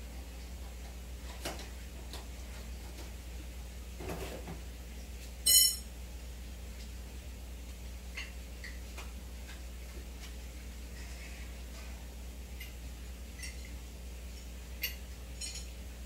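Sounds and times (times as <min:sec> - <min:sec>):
aquarium aeration hum: 0:00.0 - 0:16.0.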